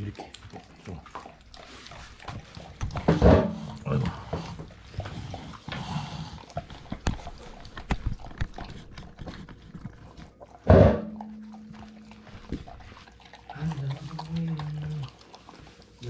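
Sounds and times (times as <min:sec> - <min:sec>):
dogs crunching fish bones: 0:00.0 - 0:16.0.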